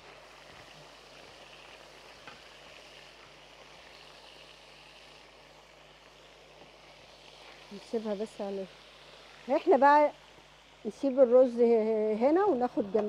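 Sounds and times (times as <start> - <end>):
steak sizzling in oil: 0.0 - 13.0.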